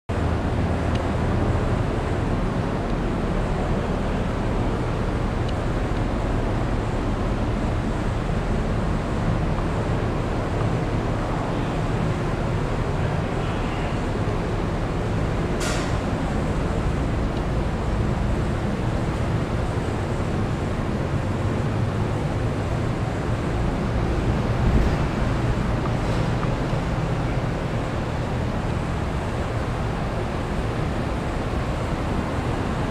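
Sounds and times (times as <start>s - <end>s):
industrial machinery rumble: 0.1s - 32.9s.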